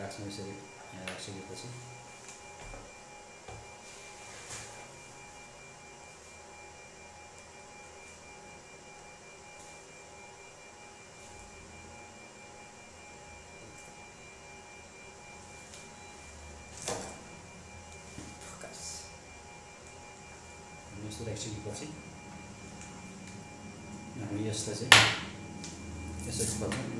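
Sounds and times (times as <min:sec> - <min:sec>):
faint electrical hum and whine: 0:00.0 - 0:26.9.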